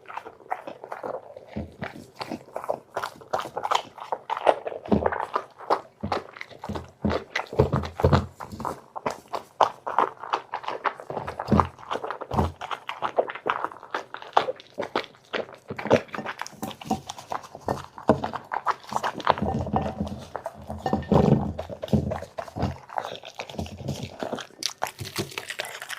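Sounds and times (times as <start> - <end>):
dog chewing and crunching food: 0.0 - 25.9.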